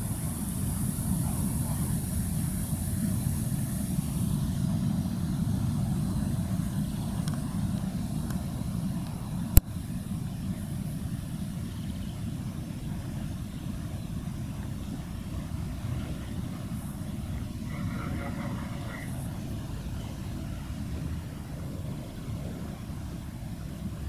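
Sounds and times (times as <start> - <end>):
ship engines rumbling: 0.0 - 24.0.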